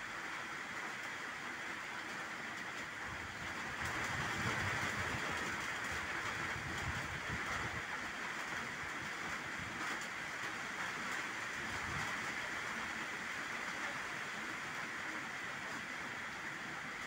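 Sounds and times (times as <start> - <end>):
heavy rain on water and leaves: 0.0 - 17.0.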